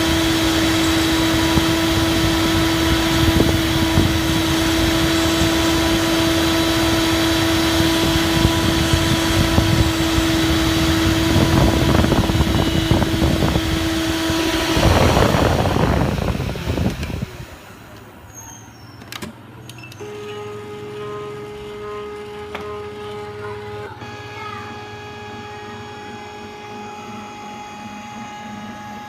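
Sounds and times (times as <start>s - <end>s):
milling machine spindle whine: 0.0s - 18.4s, 19.7s - 29.0s
mechanical noise: 0.0s - 29.0s
rough machine noise: 0.0s - 29.0s.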